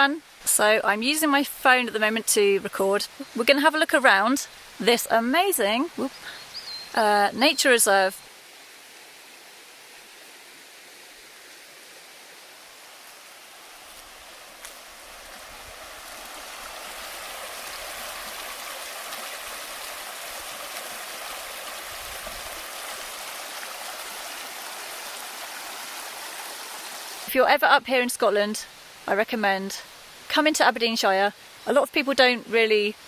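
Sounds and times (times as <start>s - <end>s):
stream water running: 0.0s - 33.0s.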